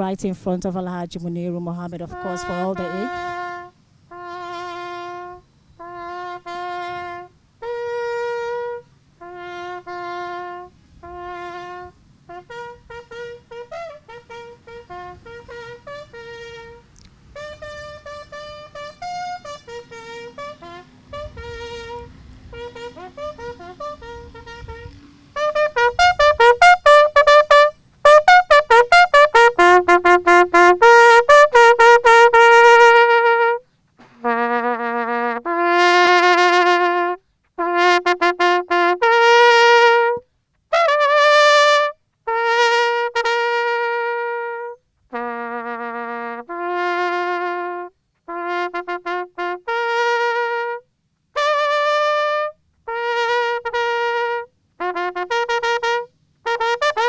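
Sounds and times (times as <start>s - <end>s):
bugle call on brass horn: 1.5s - 57.0s.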